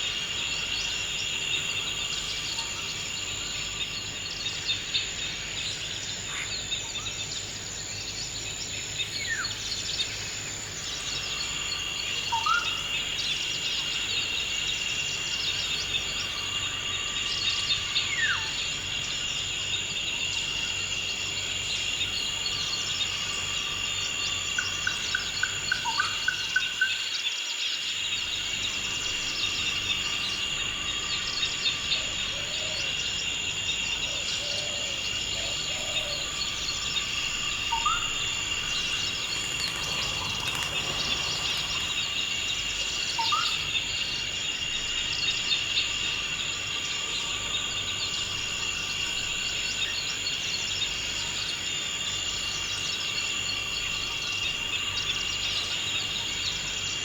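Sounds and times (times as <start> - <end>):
insect chorus trilling: 0.0 - 57.0.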